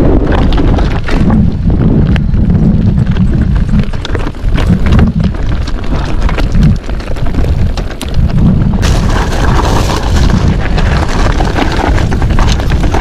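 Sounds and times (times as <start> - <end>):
mountain bike rattling on rocks: 0.0 - 13.0
wind buffeting microphone: 0.0 - 13.0.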